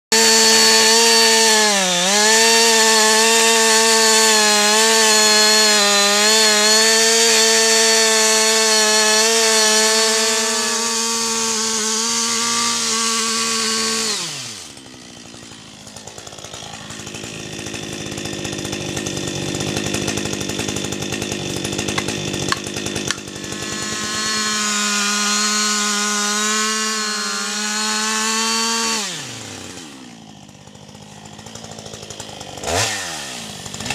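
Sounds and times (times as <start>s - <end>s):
chainsaw running at high revs: 0.1s - 33.9s.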